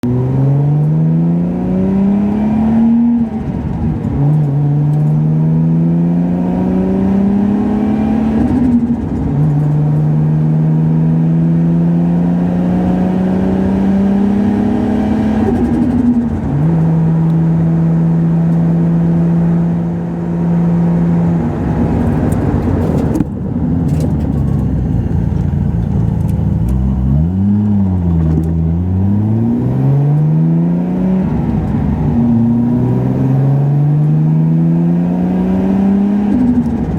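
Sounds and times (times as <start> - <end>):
turbo car engine accelerating: 0.0 - 36.9.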